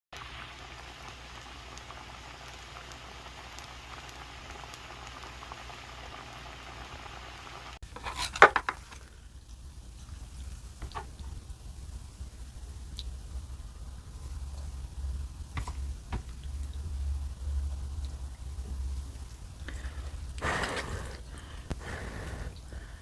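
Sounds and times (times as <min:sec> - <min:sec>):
soup bubbling at a boil: 0:00.1 - 0:23.0.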